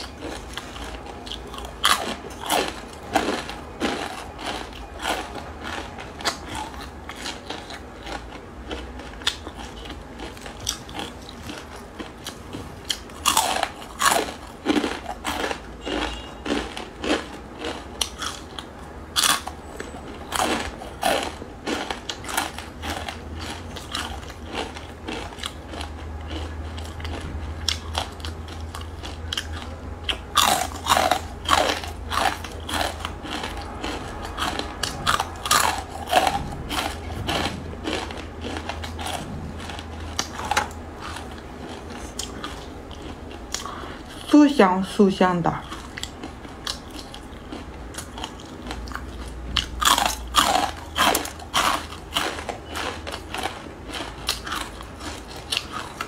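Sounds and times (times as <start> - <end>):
crunchy noodles being chewed: 0.0 - 44.3, 45.6 - 56.0
faint low hum: 0.0 - 56.0.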